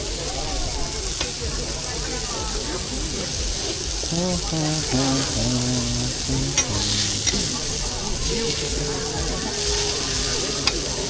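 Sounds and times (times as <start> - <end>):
burger patty sizzling: 0.0 - 11.0.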